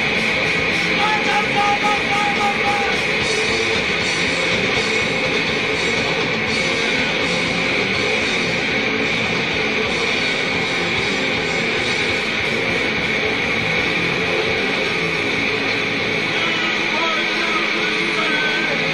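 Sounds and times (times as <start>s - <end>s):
distorted noise-rock band: 0.0s - 18.9s.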